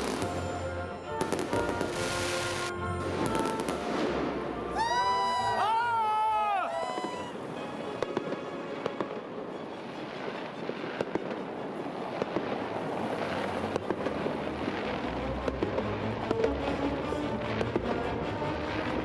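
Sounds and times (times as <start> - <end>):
distant fireworks rumble and crackle: 0.0 - 5.6, 6.8 - 19.0.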